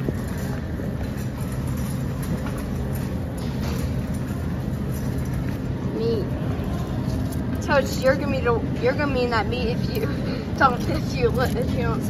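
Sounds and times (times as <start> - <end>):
shopping cart wheels rolling: 0.0 - 12.0.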